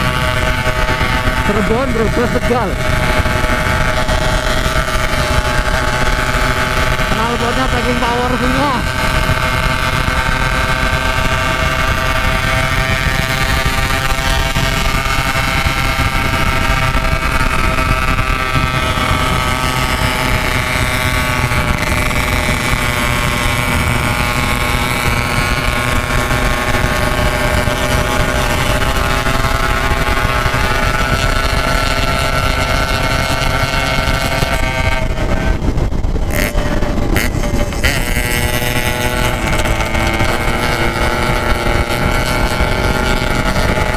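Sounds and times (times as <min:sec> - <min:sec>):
two-stroke motorcycle engine running: 0:00.0 - 0:43.9.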